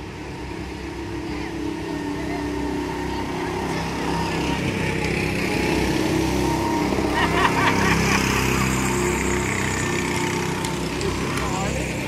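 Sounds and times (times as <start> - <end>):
go-kart engines running: 0.0 - 12.0.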